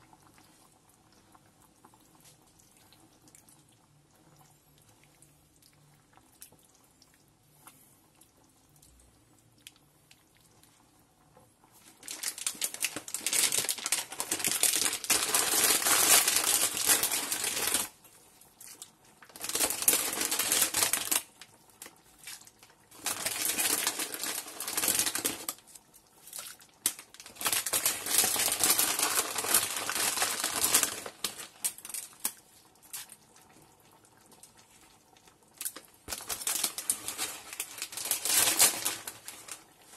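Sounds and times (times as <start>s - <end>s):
pot of water boiling: 0.0s - 39.9s.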